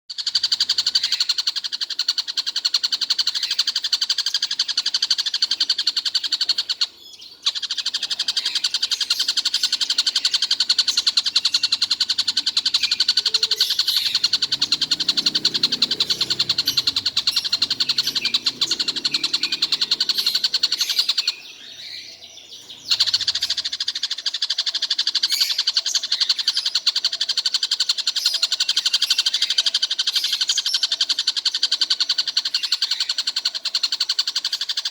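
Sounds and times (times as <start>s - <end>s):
kingfisher calling: 0.2s - 34.9s.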